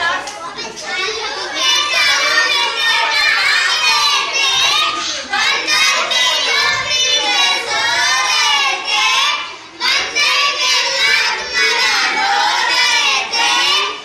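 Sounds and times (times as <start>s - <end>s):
children singing together: 0.0s - 14.0s.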